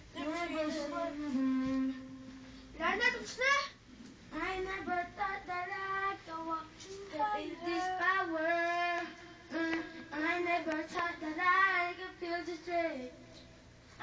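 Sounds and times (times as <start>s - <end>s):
child singing into microphone: 0.1s - 2.2s, 2.8s - 13.2s.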